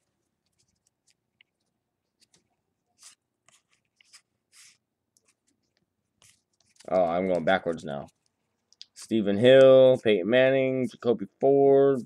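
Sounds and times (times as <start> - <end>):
trading cards rustling: 0.0 - 10.2.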